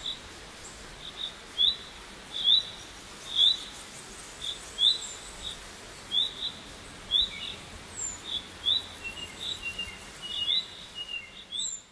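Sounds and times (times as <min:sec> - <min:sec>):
steady hiss: 0:00.0 - 0:11.9.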